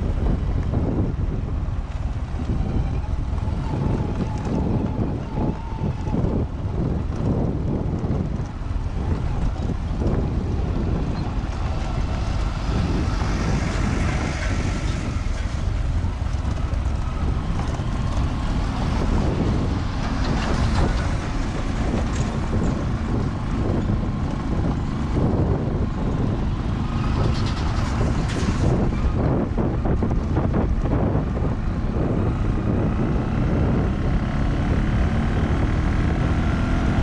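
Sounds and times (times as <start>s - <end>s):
dump truck passing: 0.0s - 37.0s
vehicle rumbling over gravel road: 0.0s - 37.0s.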